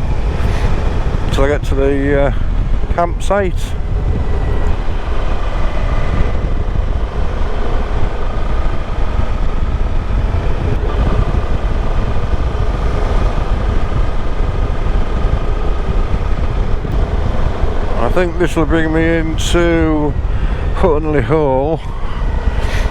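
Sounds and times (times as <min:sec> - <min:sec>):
motorcycle engine running: 0:00.0 - 0:22.9
wind rushing over microphone: 0:00.0 - 0:22.9.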